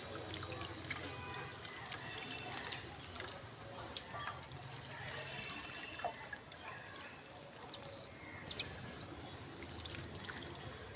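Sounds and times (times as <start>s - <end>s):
water trickling: 0.0s - 10.9s.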